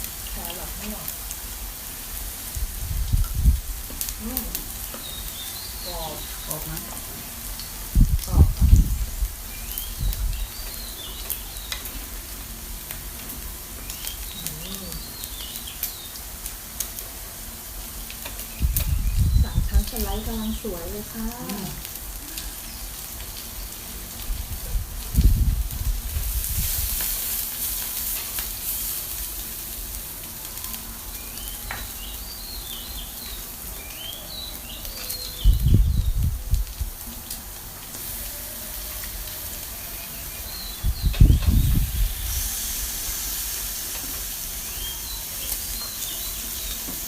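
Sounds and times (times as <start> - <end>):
pork sizzling on grill pan: 0.0 - 47.0.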